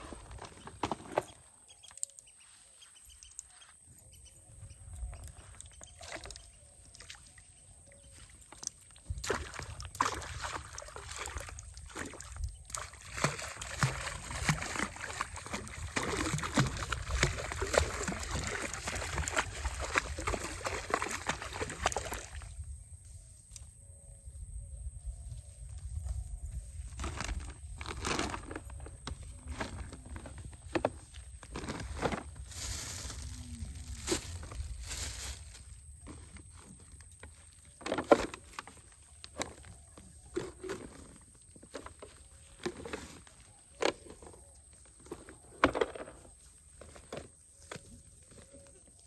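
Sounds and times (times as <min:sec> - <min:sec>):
water splashing and sloshing: 0:05.1 - 0:22.7, 0:27.1 - 0:49.0.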